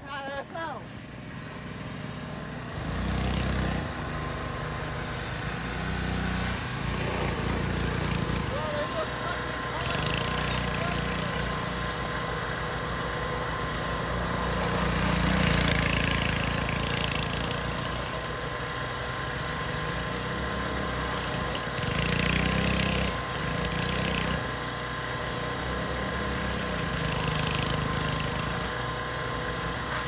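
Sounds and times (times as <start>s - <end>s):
pit bike engines revving: 0.0s - 30.0s.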